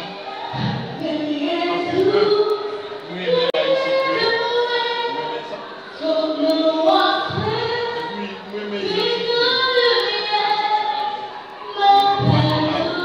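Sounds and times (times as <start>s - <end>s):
woman singing into microphone: 0.6s - 5.2s, 5.9s - 13.0s.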